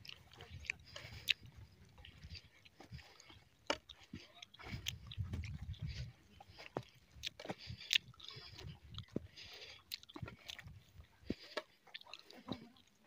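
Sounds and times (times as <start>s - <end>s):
footsteps on stony ground: 0.0s - 13.0s.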